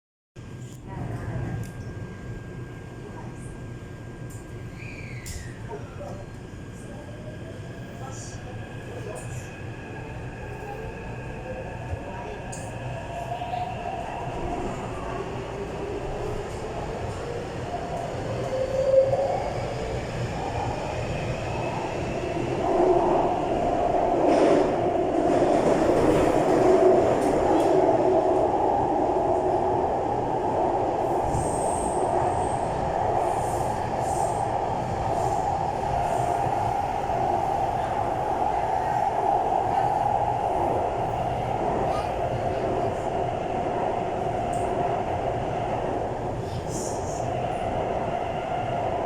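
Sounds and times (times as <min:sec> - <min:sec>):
train wheel and track rumble: 0:00.4 - 0:49.0.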